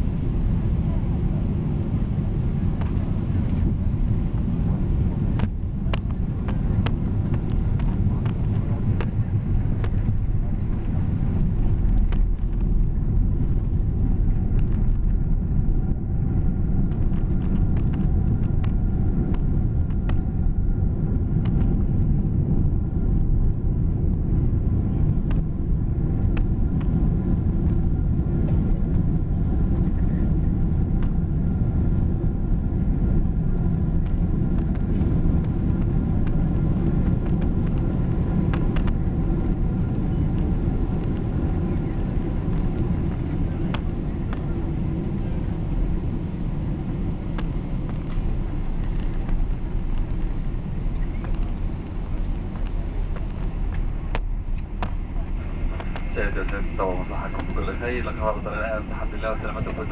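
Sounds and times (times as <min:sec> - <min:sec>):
jet engine and airflow rumble: 0:00.0 - 0:59.9.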